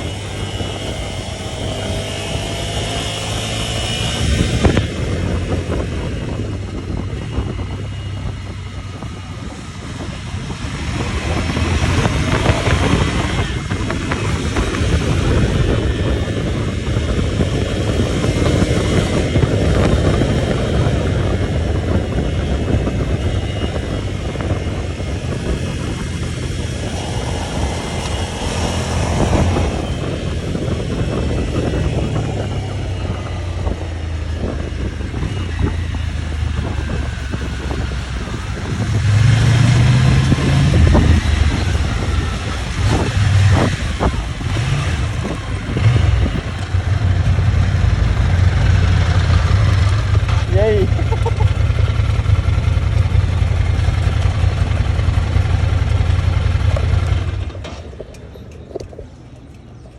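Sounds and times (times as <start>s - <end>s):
rolling and rumbling noise: 0.0s - 59.9s
vehicle engine running: 0.0s - 59.9s.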